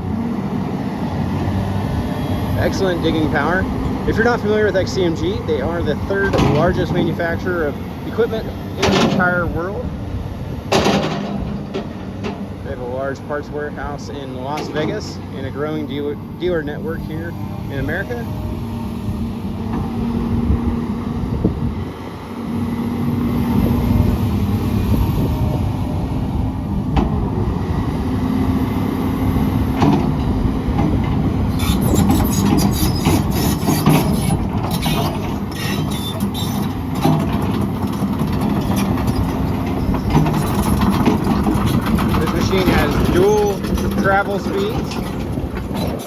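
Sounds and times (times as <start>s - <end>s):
excavator diesel engine: 0.0s - 46.0s.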